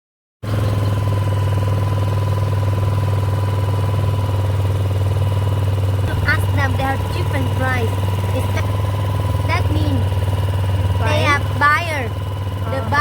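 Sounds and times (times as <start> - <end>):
boat engine running: 0.4 - 13.0.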